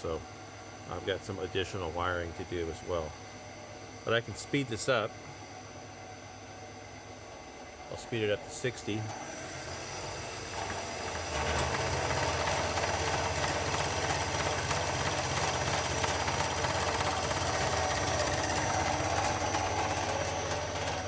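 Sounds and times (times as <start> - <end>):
drill press motor running: 0.0 - 21.0.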